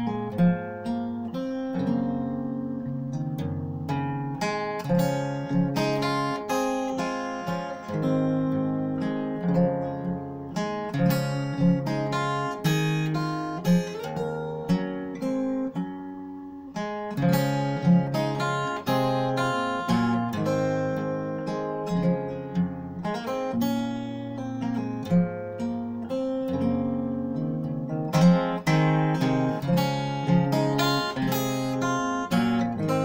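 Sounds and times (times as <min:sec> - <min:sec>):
fingerstyle acoustic guitar: 0:00.0 - 0:33.0.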